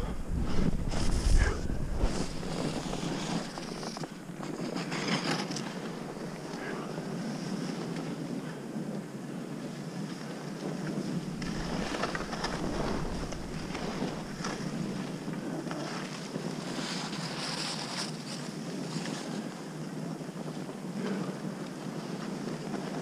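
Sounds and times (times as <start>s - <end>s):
skis scraping over snow: 0.0s - 23.0s
wind on microphone: 0.0s - 23.0s.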